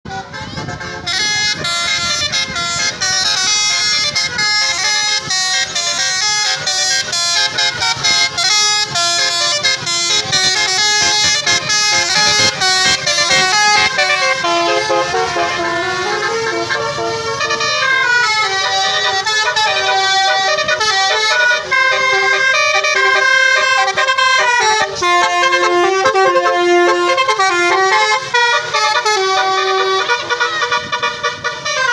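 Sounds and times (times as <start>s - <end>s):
musical air horn tune: 0.1s - 31.9s.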